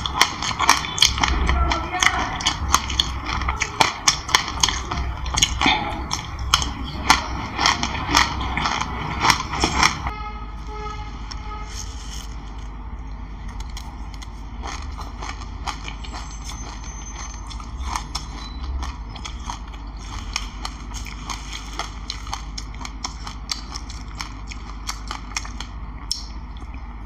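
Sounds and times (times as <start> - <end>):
crunchy chewing of seeds: 0.0 - 10.1, 11.3 - 27.0.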